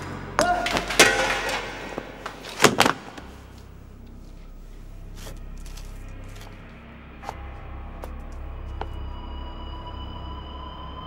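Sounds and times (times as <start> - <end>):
background music drone: 0.0 - 11.0.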